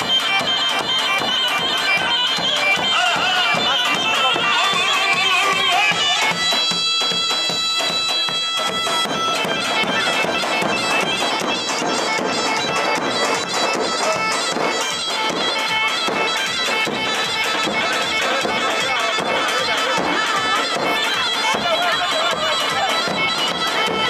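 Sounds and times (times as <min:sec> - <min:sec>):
reedy wind instrument melody: 0:00.0 - 0:24.0
steady drumbeat: 0:00.0 - 0:24.0.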